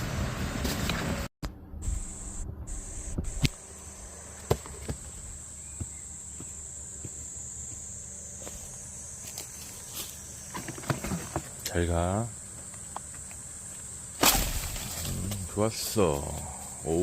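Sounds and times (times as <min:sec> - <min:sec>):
insects chirring: 0:01.8 - 0:17.0.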